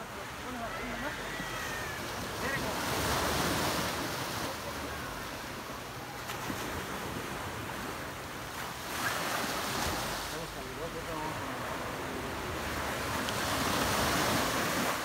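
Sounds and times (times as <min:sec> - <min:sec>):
small waves washing onto beach: 0:00.0 - 0:15.0.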